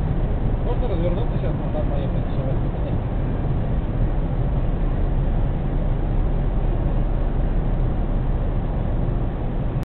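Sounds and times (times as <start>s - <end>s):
car engine and tyres rumbling: 0.0s - 9.8s.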